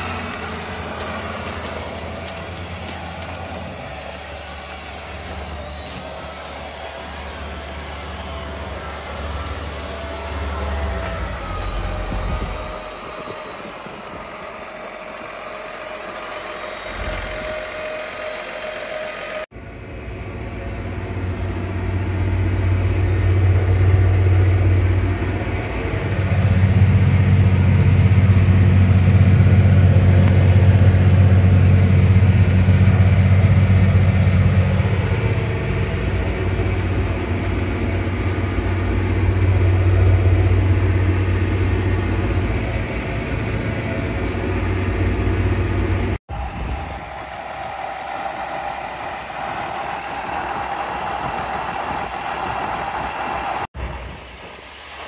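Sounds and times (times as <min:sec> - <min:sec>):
steady whine: 0:00.0 - 0:54.6
tractor diesel engine running: 0:00.0 - 0:55.0.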